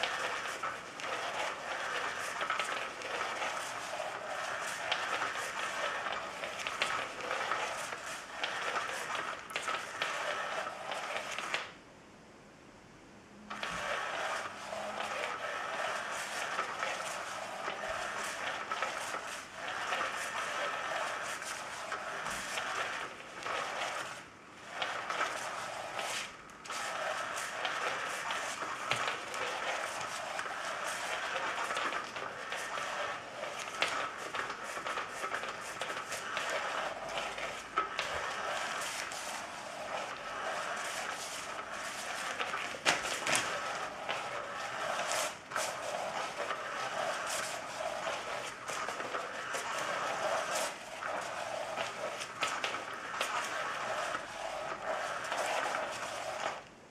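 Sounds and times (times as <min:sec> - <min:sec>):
fabric rustling and scratching: 0:00.0 - 0:11.6, 0:13.5 - 0:56.6
toy motor whirring: 0:00.0 - 0:11.7, 0:13.5 - 0:56.6.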